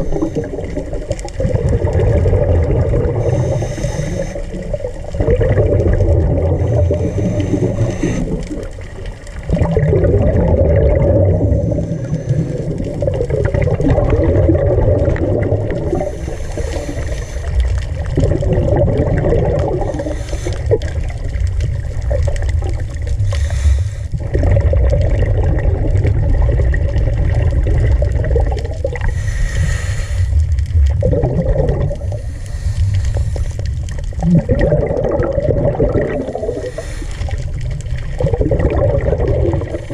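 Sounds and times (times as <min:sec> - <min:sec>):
bursts of bubbles: 0:00.0 - 0:23.4, 0:24.1 - 0:29.2, 0:30.4 - 0:32.3, 0:33.7 - 0:39.9
underwater rumble and gurgling: 0:00.0 - 0:39.9.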